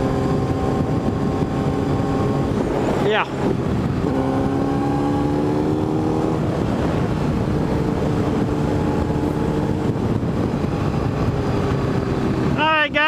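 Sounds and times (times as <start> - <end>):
motorcycle engine running: 0.0 - 13.0
wind rushing on microphone: 0.0 - 13.0.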